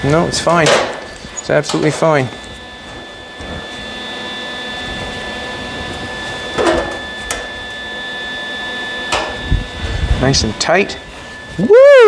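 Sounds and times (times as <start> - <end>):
shop hum with high whine: 0.0 - 12.0.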